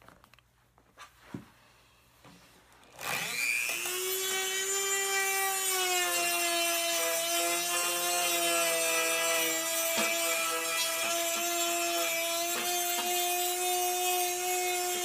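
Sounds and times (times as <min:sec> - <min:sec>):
rotary tool whining: 0:02.9 - 0:15.0.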